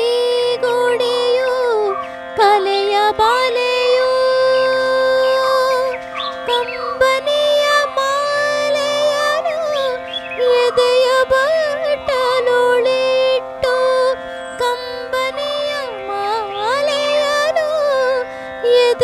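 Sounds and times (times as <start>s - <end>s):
ornamented melody: 0.0s - 19.0s.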